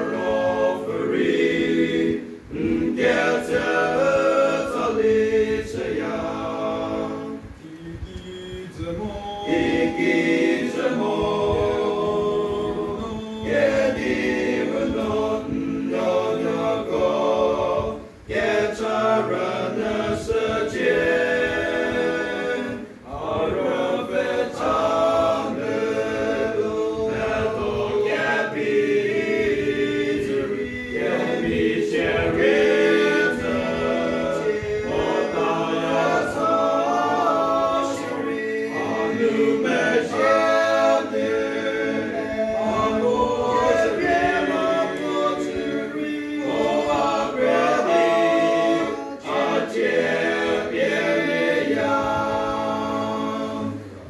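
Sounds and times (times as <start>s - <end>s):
male choir singing unaccompanied: 0.0s - 54.0s.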